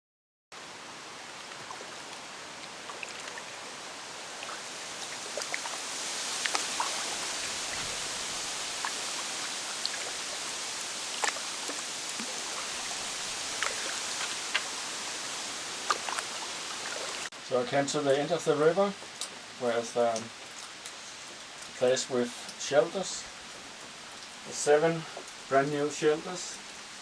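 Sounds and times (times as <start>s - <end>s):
drips and small splashes: 0.6s - 17.4s, 18.0s - 27.0s
river water rushing: 0.6s - 27.0s.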